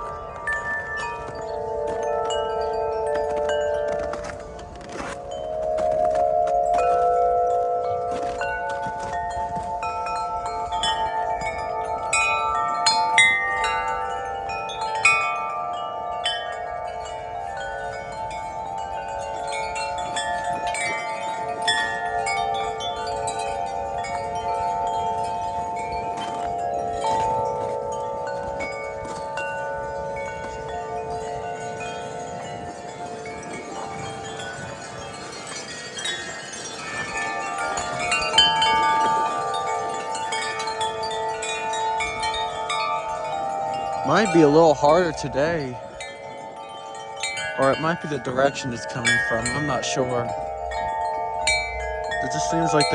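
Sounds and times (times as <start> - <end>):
wind chimes ringing: 0.0 - 52.9.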